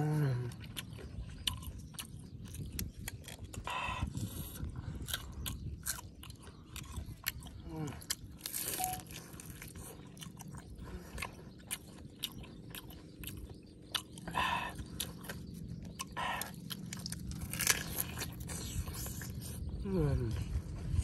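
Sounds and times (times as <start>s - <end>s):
chewing food: 0.0s - 21.0s.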